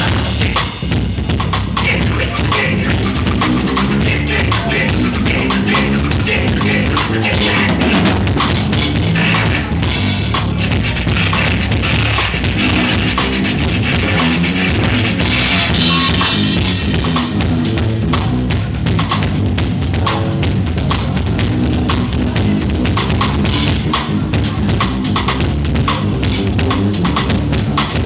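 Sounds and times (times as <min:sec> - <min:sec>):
live rock band: 0:00.0 - 0:28.0.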